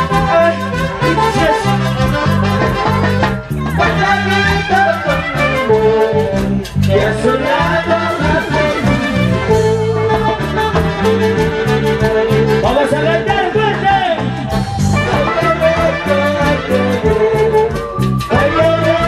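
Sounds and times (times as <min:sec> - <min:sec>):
instrumental dance music: 0:00.0 - 0:19.0.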